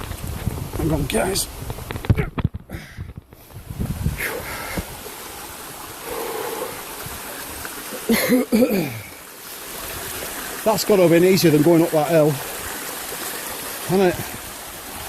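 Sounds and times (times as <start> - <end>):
stream water running over rock: 0.0 - 15.0.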